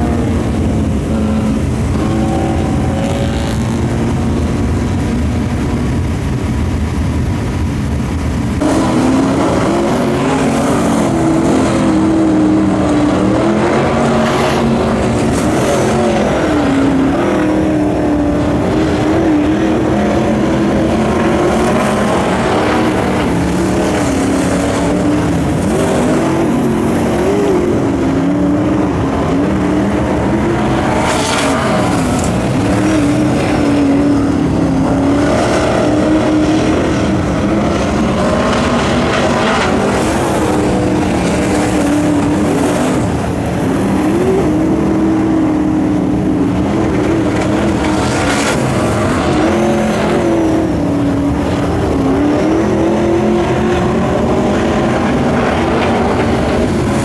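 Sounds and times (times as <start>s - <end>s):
race car engines running hard: 0.0s - 57.0s.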